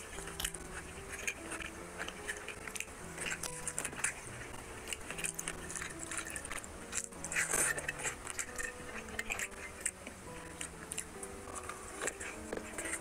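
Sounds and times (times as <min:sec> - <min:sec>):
fingers squishing food: 0:00.0 - 0:13.0
man chewing and smacking: 0:00.0 - 0:13.0.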